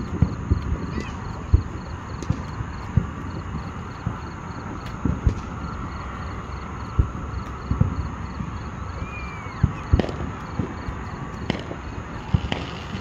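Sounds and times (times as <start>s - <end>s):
background hiss: 0.0s - 13.0s
distant fireworks booming: 0.0s - 13.0s.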